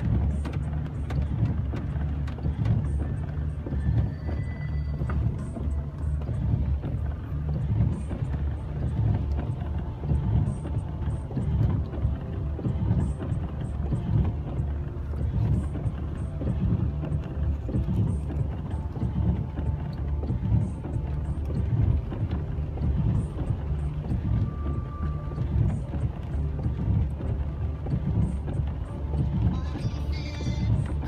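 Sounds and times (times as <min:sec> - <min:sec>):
vehicle rumbling: 0:00.0 - 0:31.0.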